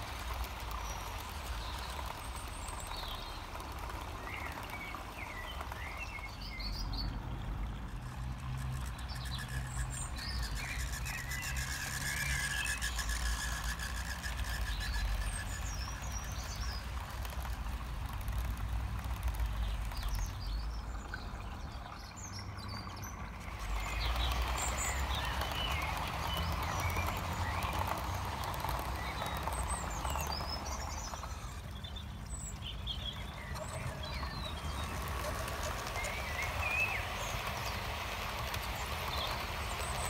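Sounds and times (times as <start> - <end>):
model train wheels on track: 0.0 - 40.0.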